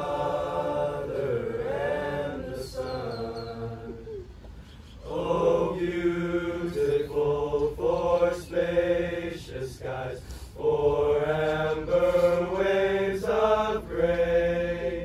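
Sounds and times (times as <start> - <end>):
boys' choir singing held chords: 0.0 - 4.4, 5.0 - 15.0.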